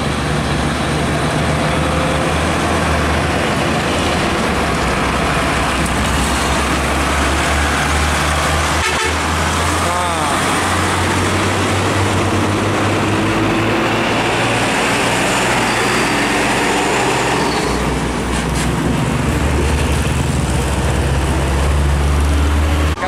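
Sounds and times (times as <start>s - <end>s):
heavy diesel truck engines: 0.0s - 23.0s
tyre and road noise: 0.0s - 23.0s.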